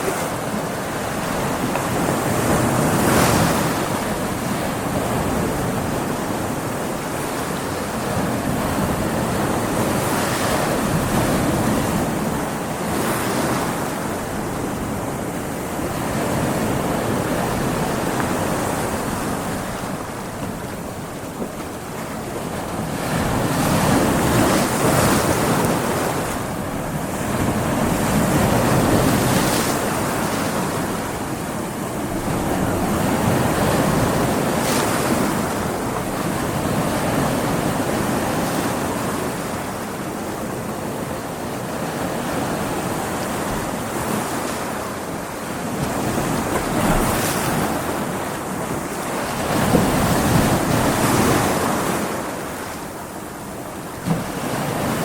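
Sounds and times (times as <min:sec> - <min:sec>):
ocean waves breaking on rocks: 0:00.0 - 0:55.0.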